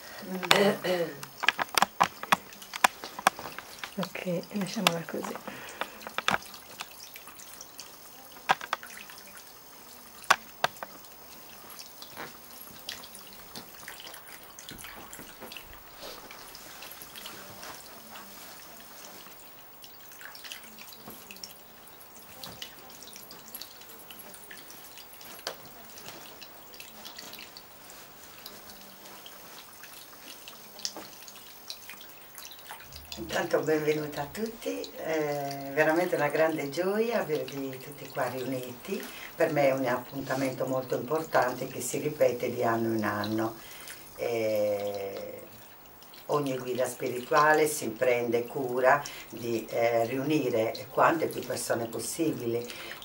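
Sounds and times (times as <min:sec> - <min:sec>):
fountain water trickling and dripping: 0:00.0 - 0:53.0.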